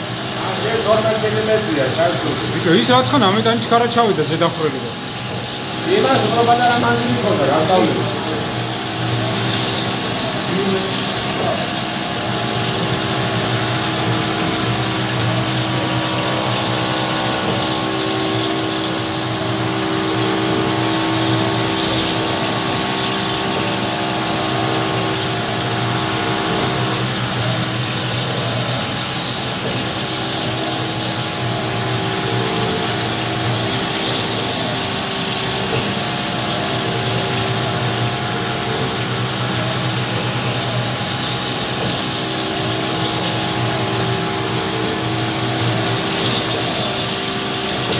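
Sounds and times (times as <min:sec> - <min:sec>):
milling machine cutting: 0:00.0 - 0:47.9.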